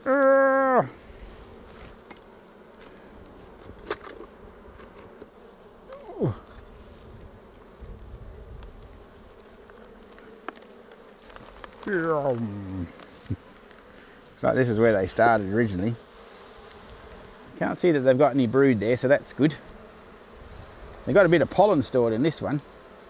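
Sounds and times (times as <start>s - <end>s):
bee flying past: 0.0s - 23.0s
bees buzzing: 0.0s - 23.0s
hive tool scraping comb: 1.3s - 6.8s, 7.4s - 23.0s.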